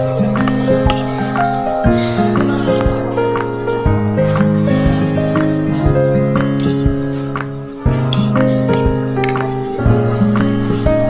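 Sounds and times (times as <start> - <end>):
soft instrumental background music: 0.0 - 11.0.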